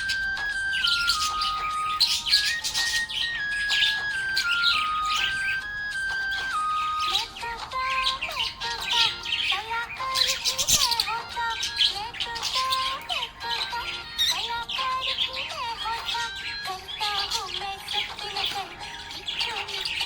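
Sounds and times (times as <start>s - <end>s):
budgerigar chirping and chattering: 0.0s - 20.0s
children's song melody: 0.0s - 20.0s.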